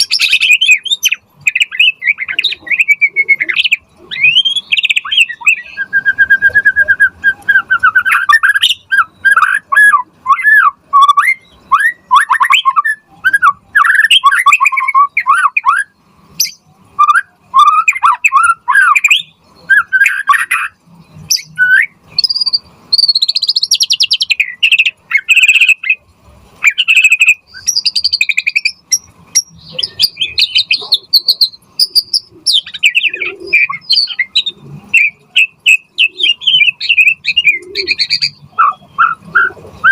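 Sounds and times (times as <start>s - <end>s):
bird singing whistled phrases: 0.0s - 26.0s, 26.6s - 39.9s.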